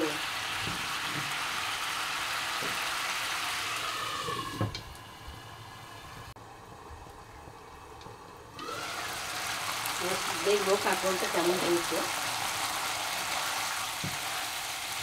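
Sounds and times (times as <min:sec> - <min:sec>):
curry sizzling in a pan: 0:00.0 - 0:06.4, 0:08.6 - 0:15.0.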